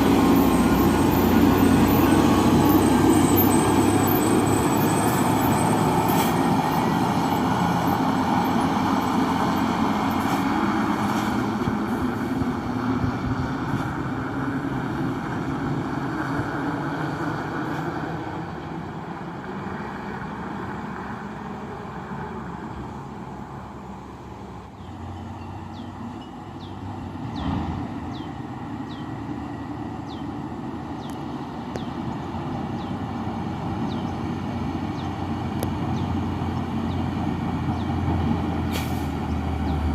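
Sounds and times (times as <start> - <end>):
dump truck engine labouring uphill: 0.0 - 39.9
vehicle approaching: 0.0 - 39.9.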